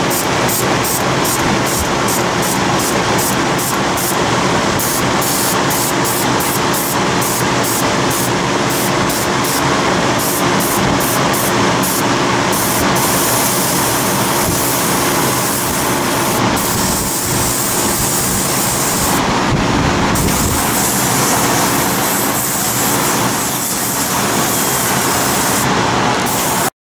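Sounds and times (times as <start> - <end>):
airbrush hissing: 0.0 - 4.2, 4.8 - 19.2, 20.2 - 25.7, 26.3 - 26.7.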